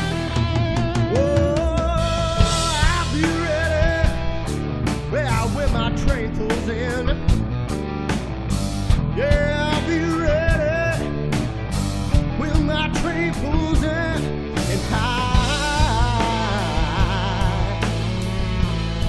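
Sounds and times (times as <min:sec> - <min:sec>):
drums steady beat: 0:00.0 - 0:19.0
electric guitar bending notes: 0:00.0 - 0:19.0.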